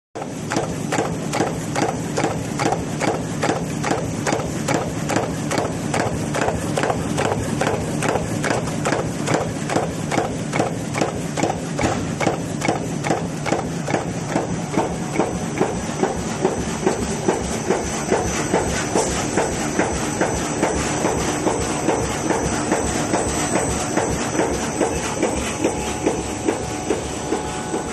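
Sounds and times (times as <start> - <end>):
machine hum: 0.2 - 27.9
mechanical clacks: 0.2 - 27.9.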